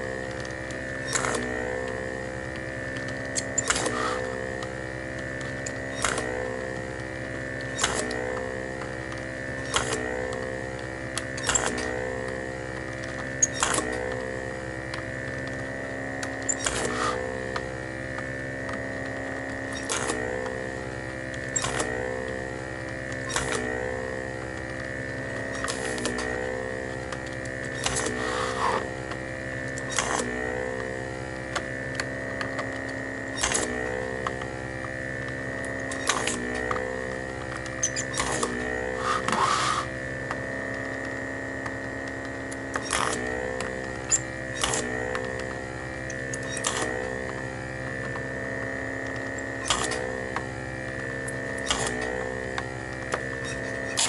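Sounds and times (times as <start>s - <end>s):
vacuum pump humming and whining: 0.0s - 54.0s.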